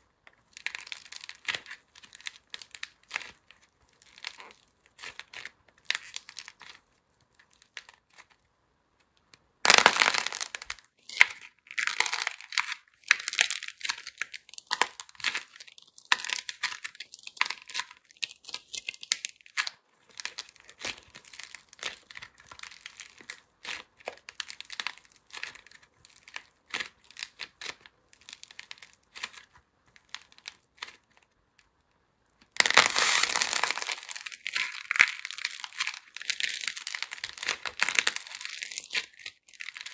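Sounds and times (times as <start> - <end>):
clay crackling and tearing: 0.2 - 39.9.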